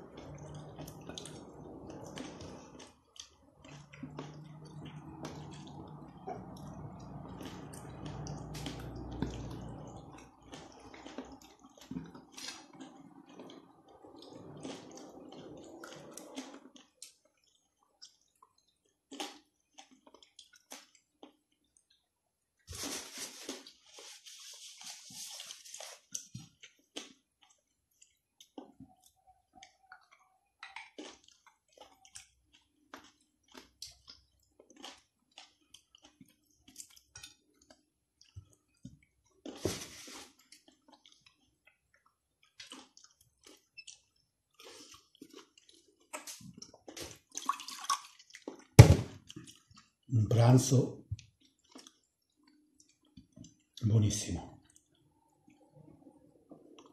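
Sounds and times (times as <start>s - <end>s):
person chewing grapes: 0.0s - 56.9s.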